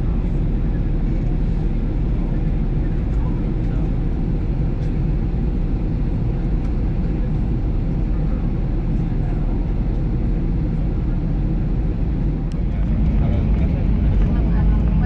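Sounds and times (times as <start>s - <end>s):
airplane engines in cabin: 0.0s - 15.0s.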